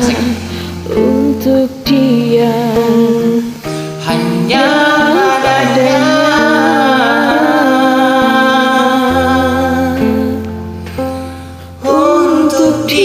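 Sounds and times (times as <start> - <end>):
person singing long note: 0.0 - 10.5
karaoke backing track: 0.0 - 13.0.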